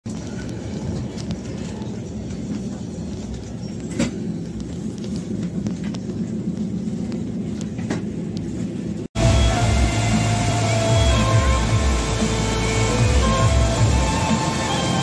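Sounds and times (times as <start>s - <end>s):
train rumbling on track: 0.1s - 15.0s.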